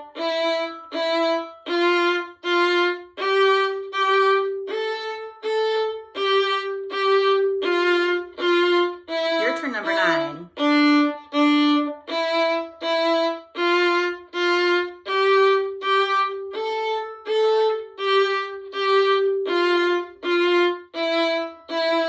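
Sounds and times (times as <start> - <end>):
violin playing a scale: 0.0 - 22.0.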